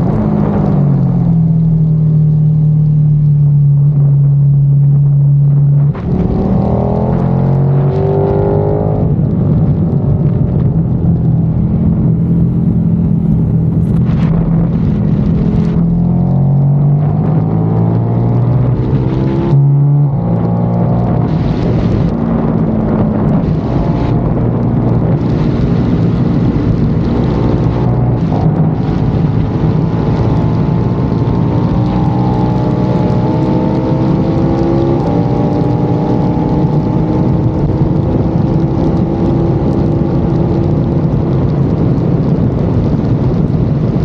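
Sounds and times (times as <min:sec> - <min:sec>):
motorcycle engine revving: 0:00.0 - 0:43.4
wind rush on microphone: 0:00.0 - 0:44.0.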